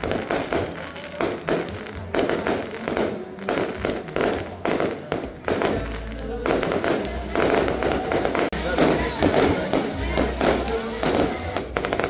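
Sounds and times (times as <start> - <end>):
fireworks bangs with crackling: 0.0 - 12.0.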